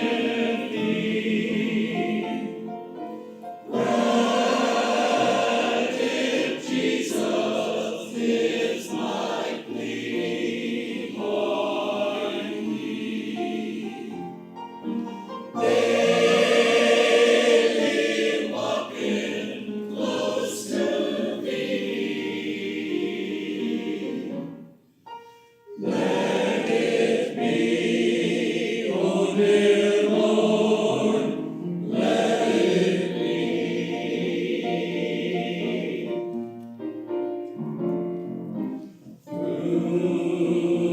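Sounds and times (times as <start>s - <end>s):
choir singing: 0.0s - 24.8s, 25.7s - 36.7s, 39.0s - 40.9s.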